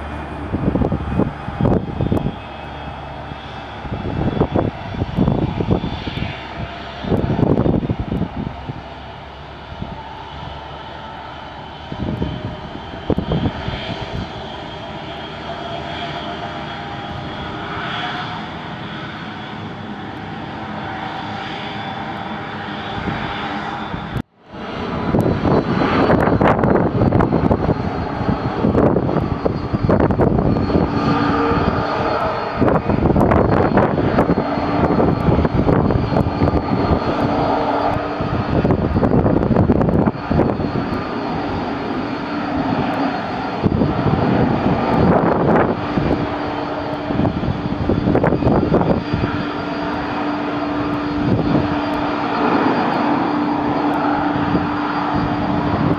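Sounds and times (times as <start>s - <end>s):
airliner engines whining: 0.0s - 55.9s.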